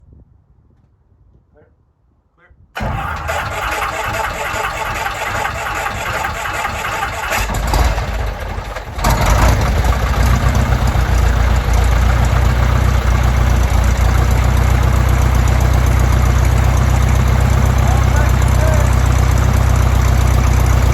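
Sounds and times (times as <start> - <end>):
aircraft engine idling: 2.8 - 20.9
starter cranking engine: 2.8 - 20.9.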